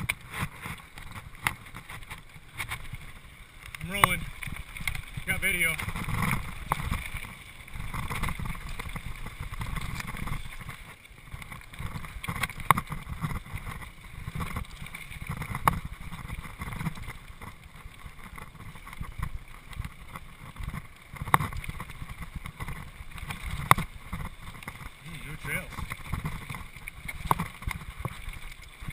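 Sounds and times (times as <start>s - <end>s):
bike rattling over bumps: 0.0s - 28.9s
bike tyre rumble: 0.0s - 28.9s.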